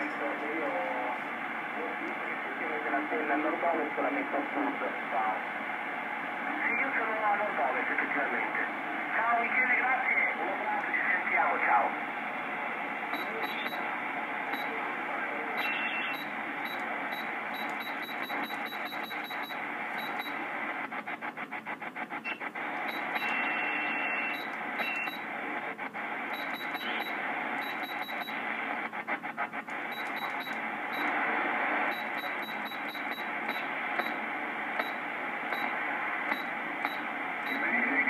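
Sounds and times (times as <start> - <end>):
radio static and hiss: 0.0 - 38.0.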